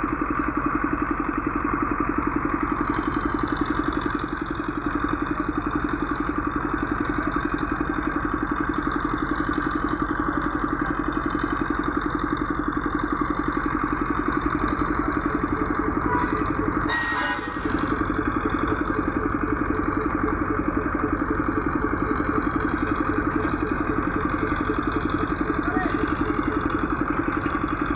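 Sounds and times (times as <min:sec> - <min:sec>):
engine idling: 0:00.0 - 0:27.9.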